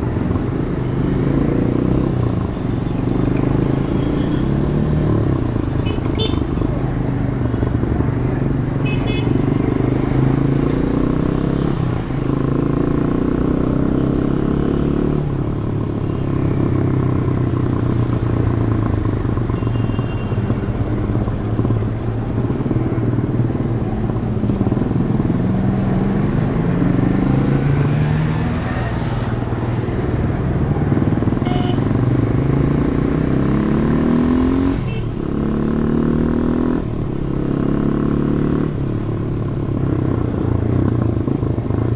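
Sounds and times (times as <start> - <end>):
motorcycle engine revving: 0.0 - 23.0, 23.6 - 41.9.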